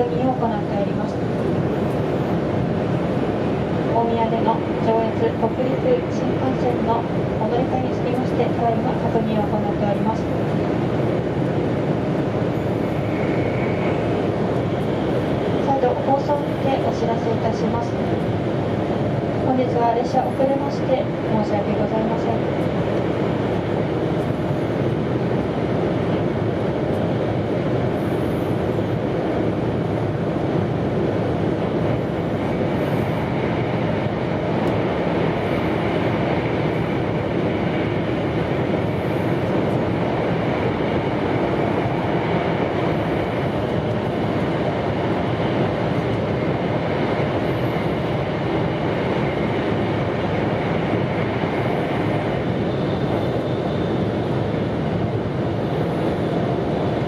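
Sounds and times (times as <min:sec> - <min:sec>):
train running rumble and hiss: 0:00.0 - 0:57.0.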